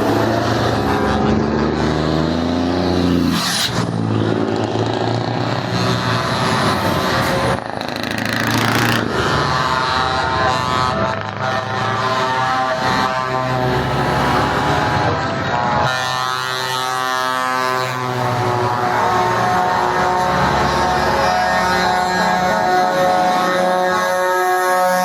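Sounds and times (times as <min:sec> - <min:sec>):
truck diesel engines running: 0:00.0 - 0:25.0.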